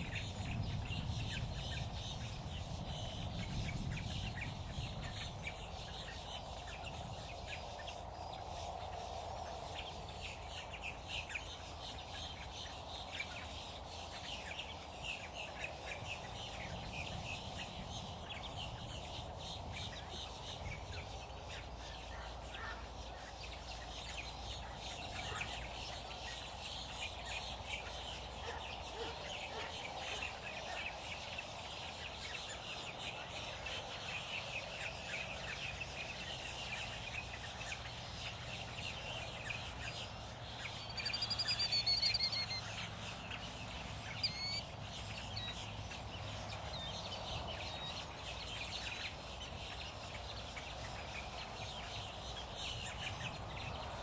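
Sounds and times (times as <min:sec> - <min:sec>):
wild birds chirping: 0:00.0 - 0:54.0
high repeated bird calls: 0:09.9 - 0:53.5.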